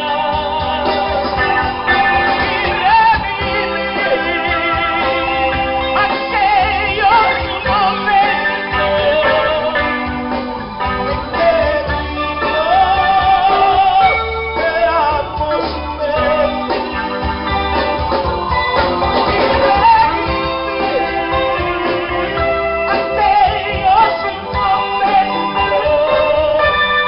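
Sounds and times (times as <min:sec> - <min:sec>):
bass guitar: 0:00.0 - 0:27.0
drums: 0:00.0 - 0:27.0
electronic organ keyboard: 0:00.0 - 0:27.0
person singing with vibrato: 0:00.0 - 0:27.0.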